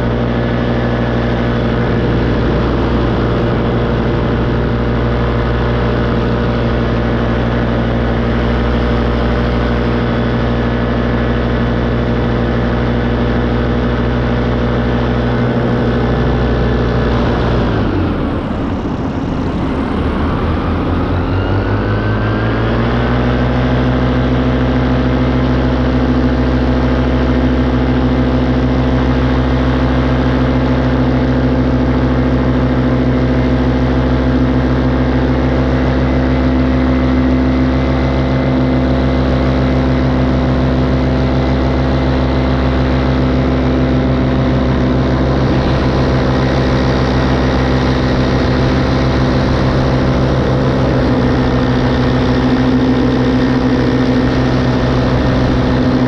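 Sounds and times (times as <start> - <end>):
propeller aircraft engine: 0.0 - 56.0.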